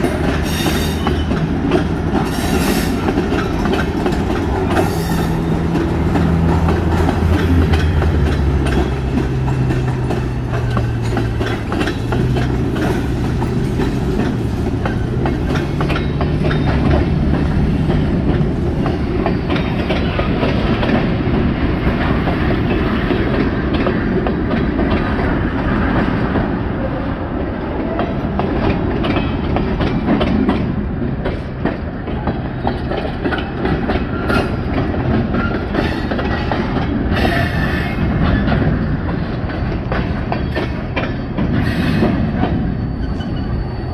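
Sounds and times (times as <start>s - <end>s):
freight train rumbling past: 0.0s - 43.9s
wheels clacking over rail joints: 0.0s - 43.9s.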